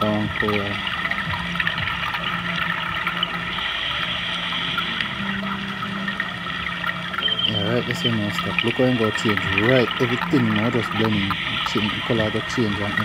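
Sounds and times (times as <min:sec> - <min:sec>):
low hum: 0:00.0 - 0:13.0
water rushing: 0:00.0 - 0:13.0.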